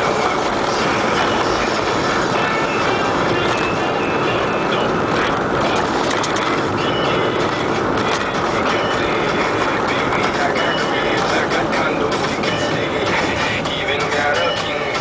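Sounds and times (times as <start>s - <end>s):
engine and tyre noise: 0.0s - 15.0s.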